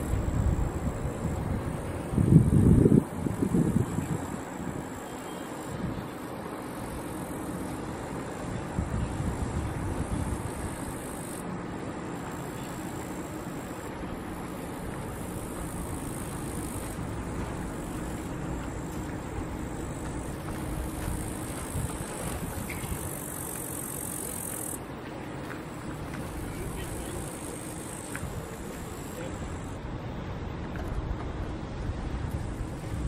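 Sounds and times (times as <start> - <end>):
wind rushing over microphone: 0.0 - 5.0, 8.3 - 11.6, 13.8 - 24.8, 25.8 - 33.0
faint steady hum: 0.0 - 33.0.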